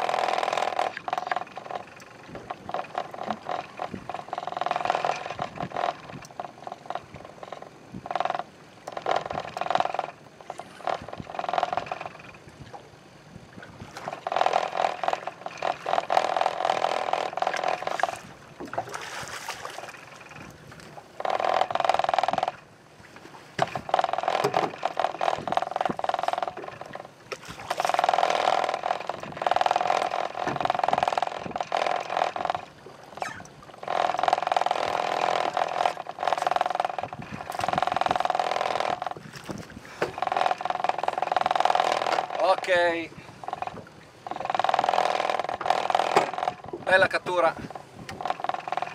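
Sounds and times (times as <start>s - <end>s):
fishing reel whirring: 0.0s - 12.7s, 13.8s - 22.8s, 23.6s - 48.9s.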